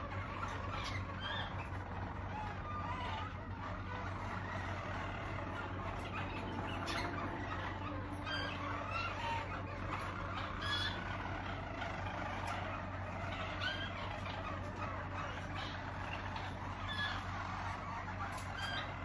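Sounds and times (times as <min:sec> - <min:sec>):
canaries singing: 0:00.0 - 0:19.0
steady low hum: 0:00.0 - 0:19.0.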